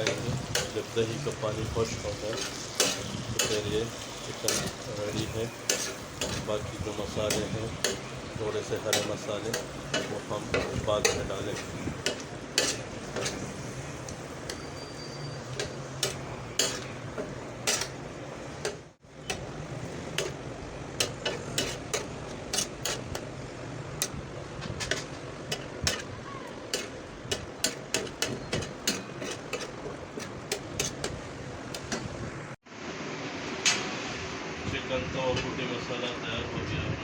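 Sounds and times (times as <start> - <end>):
metal spatula scraping pan: 0.0 - 32.2
food sizzling: 0.0 - 32.6.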